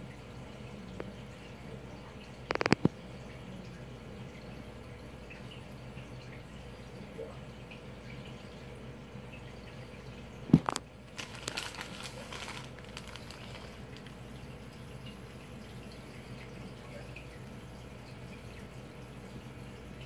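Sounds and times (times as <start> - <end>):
aquarium water trickling: 0.0 - 20.0.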